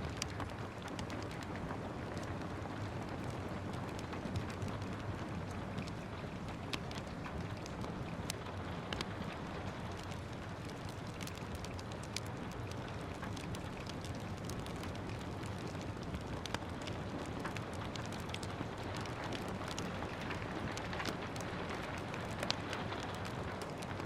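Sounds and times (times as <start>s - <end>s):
gentle rain hissing: 0.0s - 24.0s
wood fire crackling and popping: 0.0s - 24.0s.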